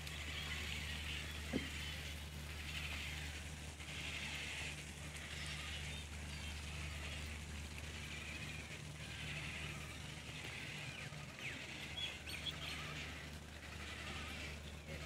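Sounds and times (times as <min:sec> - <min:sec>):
birds chirping and twittering: 0:00.0 - 0:15.0
steady low hum: 0:00.0 - 0:15.0.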